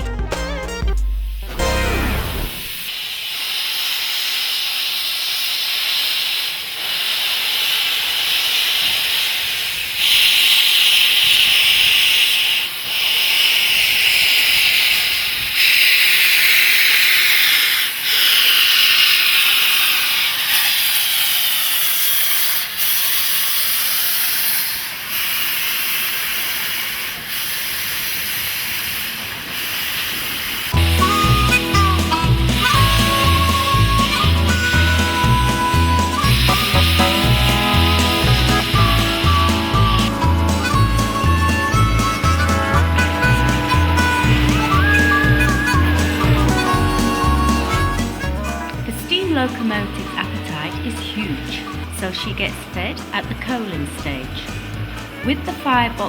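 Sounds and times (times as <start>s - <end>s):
steam locomotive venting steam: 1.3s - 56.0s.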